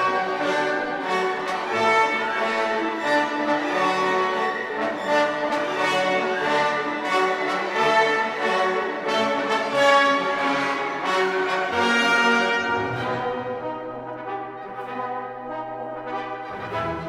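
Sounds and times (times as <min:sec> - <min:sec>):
orchestral brass chords: 0:00.0 - 0:17.0.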